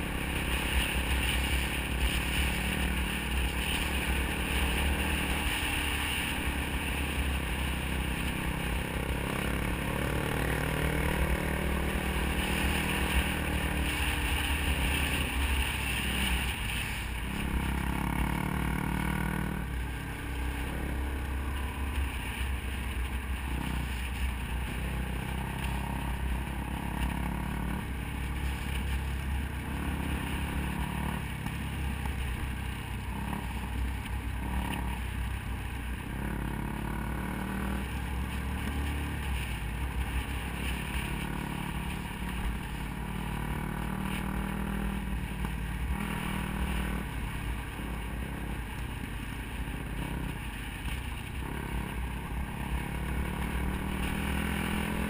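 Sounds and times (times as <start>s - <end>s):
motorcycle engine running: 0.0s - 55.0s
tires on gravel road: 0.0s - 55.0s.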